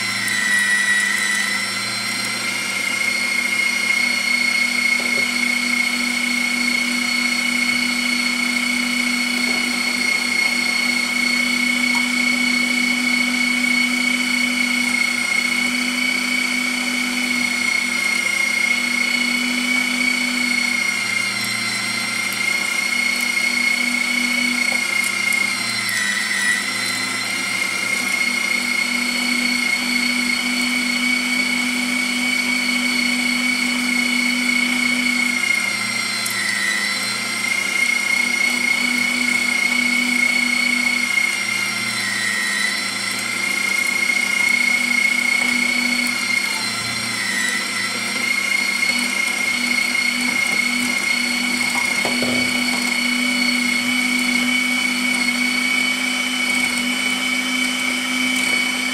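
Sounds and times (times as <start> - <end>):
electric meat mincer whining: 0.0 - 58.9.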